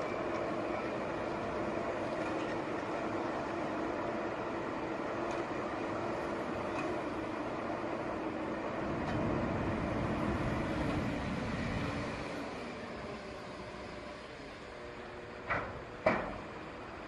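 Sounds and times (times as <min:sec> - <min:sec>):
paving machinery engine rumble: 0:00.0 - 0:17.0.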